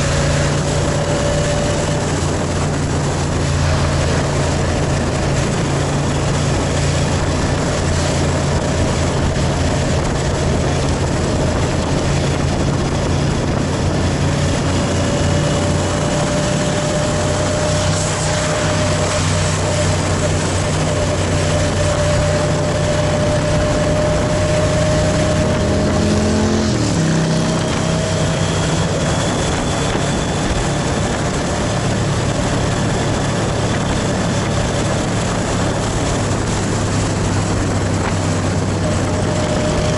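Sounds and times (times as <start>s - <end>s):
motorcycle engine running: 0.0s - 39.9s
wind hiss: 0.0s - 39.9s.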